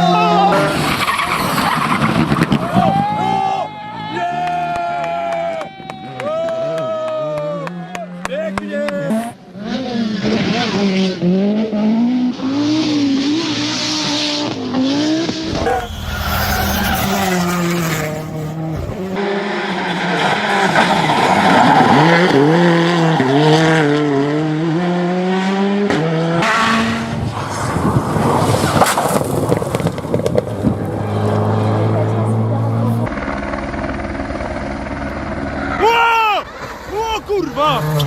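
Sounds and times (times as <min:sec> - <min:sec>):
rally car engines revving: 0:00.0 - 0:03.5, 0:07.6 - 0:38.0.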